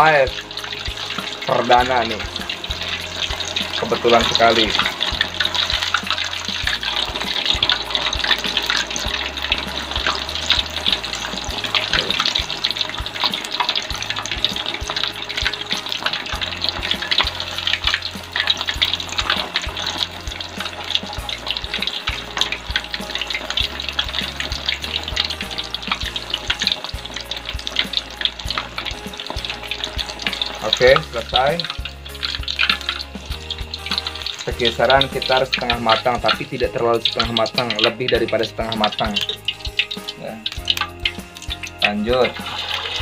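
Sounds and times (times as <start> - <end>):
deep-frying sizzle with pops: 0.0 - 43.0.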